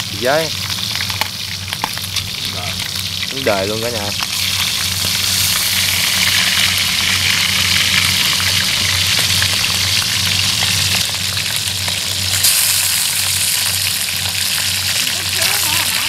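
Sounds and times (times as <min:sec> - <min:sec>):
oil sizzling with crackles: 0:00.0 - 0:16.0
steady low hum: 0:00.0 - 0:16.0.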